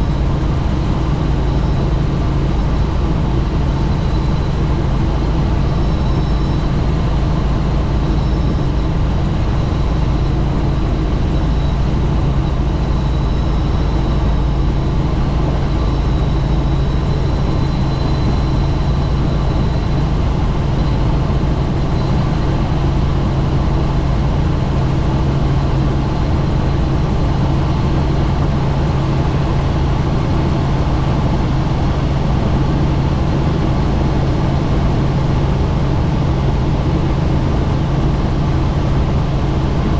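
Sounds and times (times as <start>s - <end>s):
faint high whine: 0.0s - 39.9s
helicopter rotor and engine drone: 0.0s - 39.9s.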